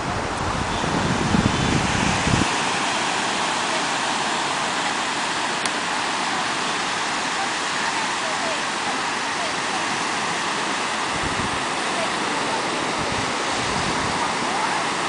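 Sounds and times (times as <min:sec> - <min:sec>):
ocean waves washing onto sand: 0:00.0 - 0:15.0.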